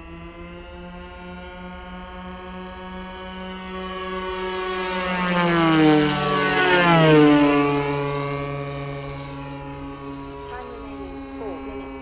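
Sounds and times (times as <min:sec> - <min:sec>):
model planes flying past: 0:00.0 - 0:12.0.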